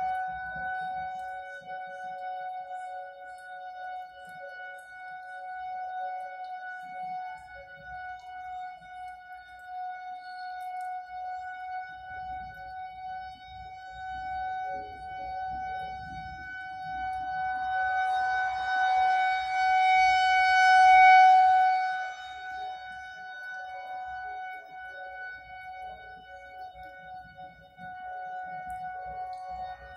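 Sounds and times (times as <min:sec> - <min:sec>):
rotating warning siren: 0:00.0 - 0:29.9.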